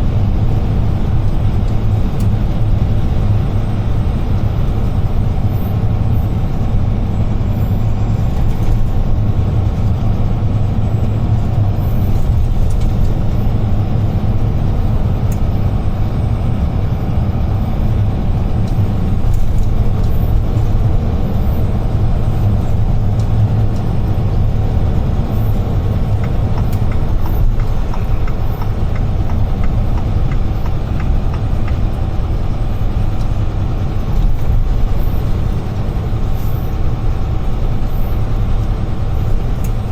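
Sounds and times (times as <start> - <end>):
road and tyre noise: 0.0 - 39.9
truck engine drone: 0.0 - 39.9.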